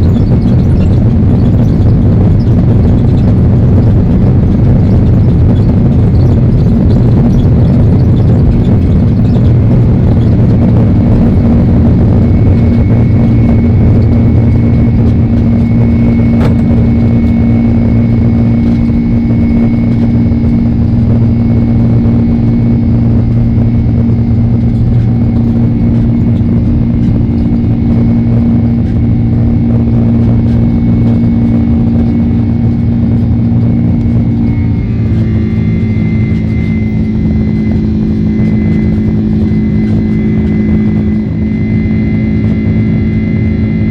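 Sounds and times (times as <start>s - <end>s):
jet engines heard from cabin: 0.0s - 43.9s.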